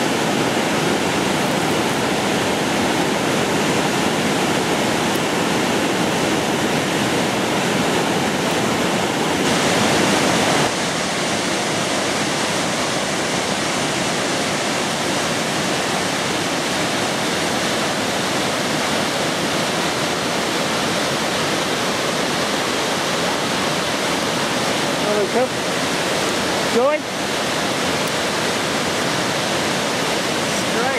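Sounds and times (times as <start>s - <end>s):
river rapids rushing: 0.0s - 30.9s.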